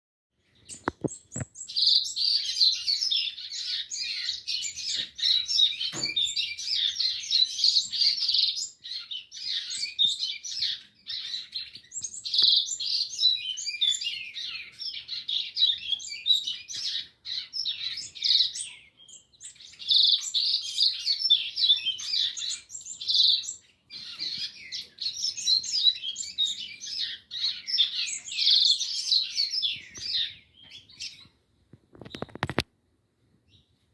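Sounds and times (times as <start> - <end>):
seedeaters twittering songs: 0.4 - 32.6.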